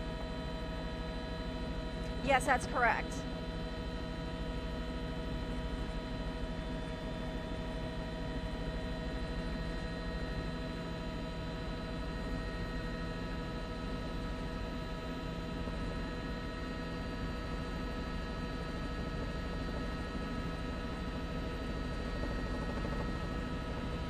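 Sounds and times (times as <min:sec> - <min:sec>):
helicopter engine and rotors drone: 0:00.0 - 0:24.0.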